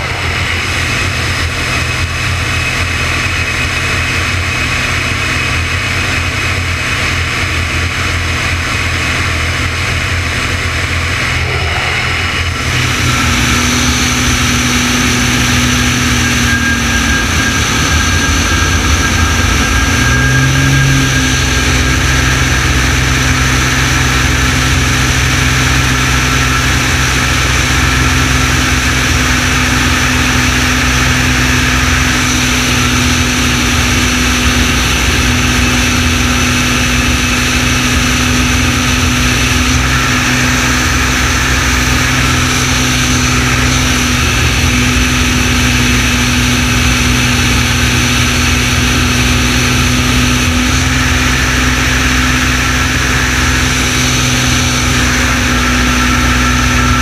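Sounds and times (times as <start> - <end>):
aircraft engine and propeller: 0.0 - 57.0
rushing wind: 0.0 - 57.0.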